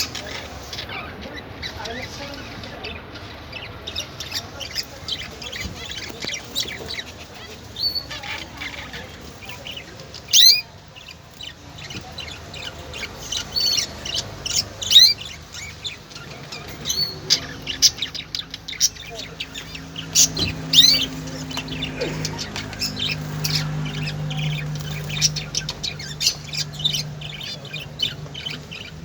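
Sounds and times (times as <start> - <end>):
loud bird calls: 0.0 - 29.0
small birds chirping: 0.0 - 29.0.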